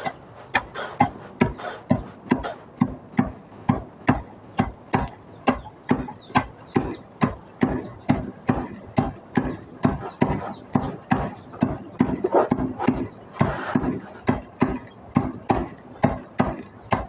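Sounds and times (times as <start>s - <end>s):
pestles pounding in mortar: 0.0s - 17.0s.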